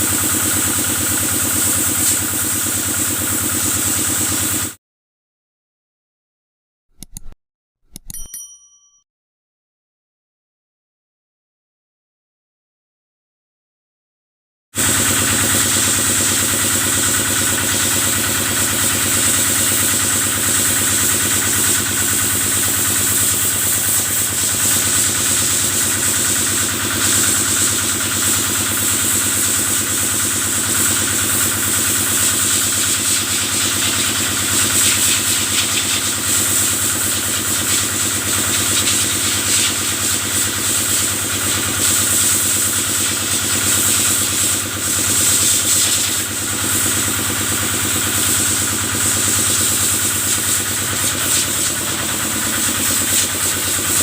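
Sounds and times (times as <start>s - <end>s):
sprayer hiss: 0.0s - 4.7s, 14.8s - 54.0s
engine running steadily: 0.0s - 4.8s, 14.8s - 54.0s.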